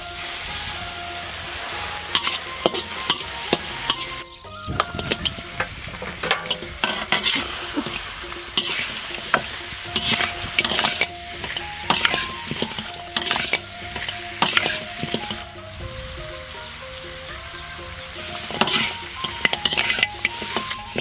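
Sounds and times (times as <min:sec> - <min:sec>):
meat sizzling in hot oil: 0:00.0 - 0:15.7, 0:17.9 - 0:21.0
metal spatula scraping a wok: 0:00.1 - 0:15.5, 0:18.2 - 0:21.0.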